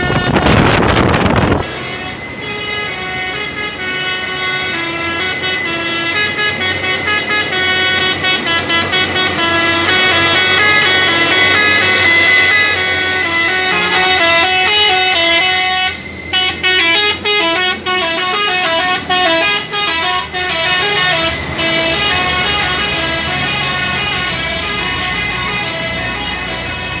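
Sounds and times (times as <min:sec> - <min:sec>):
low engine running: 0:00.0 - 0:27.0
truck horn playing tune: 0:00.0 - 0:27.0.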